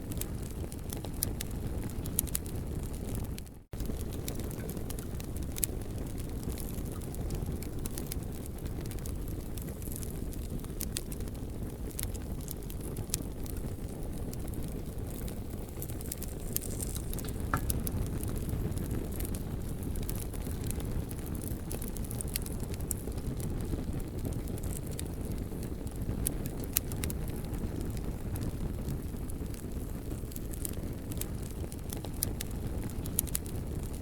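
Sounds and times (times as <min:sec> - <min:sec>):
campfire crackling: 0:00.0 - 0:34.0
sharp pops of fire: 0:00.0 - 0:34.0.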